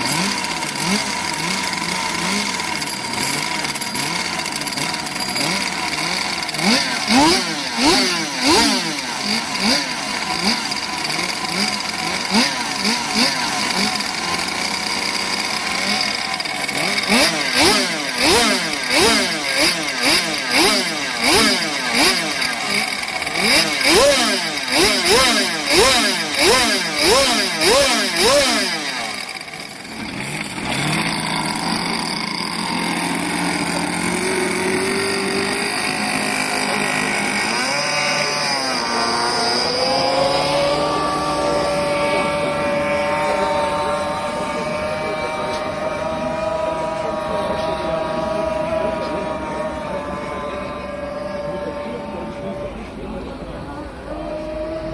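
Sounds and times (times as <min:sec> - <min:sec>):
engine revving: 0:00.0 - 0:54.9.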